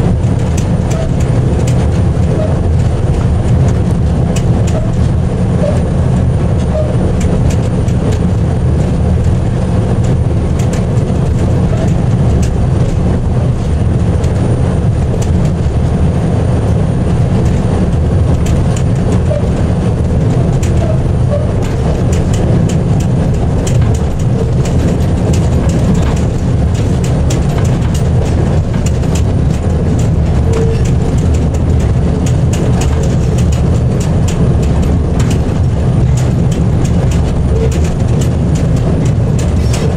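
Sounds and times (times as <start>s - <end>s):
locomotive engine rumble: 0.0s - 39.9s
wheels clicking on track: 0.0s - 39.9s.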